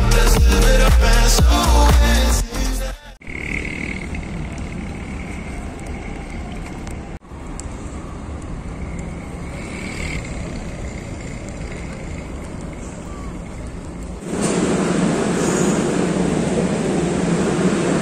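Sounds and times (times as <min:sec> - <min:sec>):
road traffic rumble: 0:03.2 - 0:18.0.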